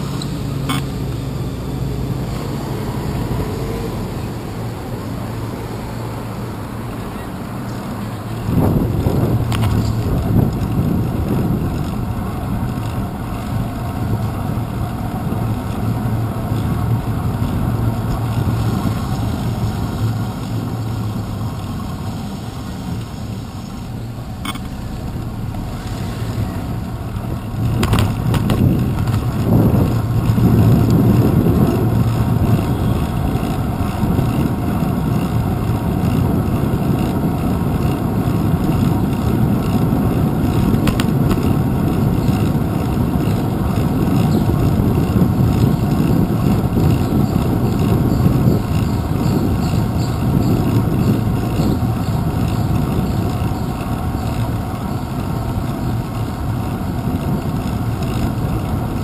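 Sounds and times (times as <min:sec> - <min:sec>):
wind and road noise rumble: 0:00.0 - 0:59.0.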